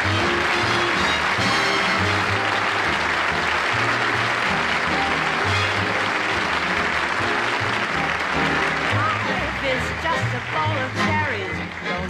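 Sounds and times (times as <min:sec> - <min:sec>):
audience applauding: 0:00.0 - 0:12.0
band playing: 0:00.0 - 0:12.0.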